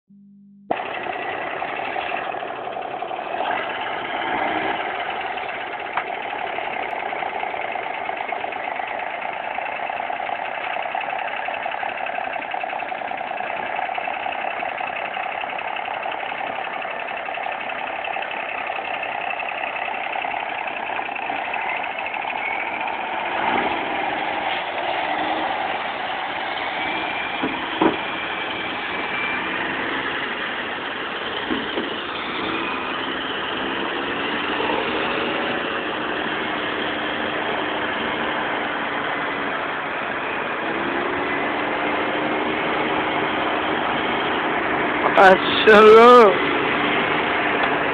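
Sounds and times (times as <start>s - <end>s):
truck diesel engine running: 0.7s - 47.9s.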